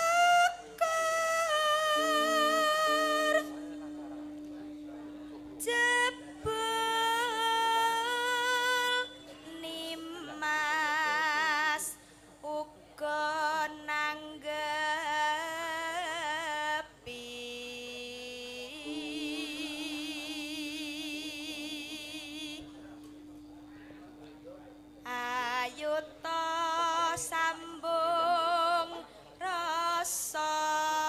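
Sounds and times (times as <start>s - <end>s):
woman singing with vibrato: 0.0s - 23.0s, 25.1s - 31.0s
steady low hum: 0.0s - 31.0s.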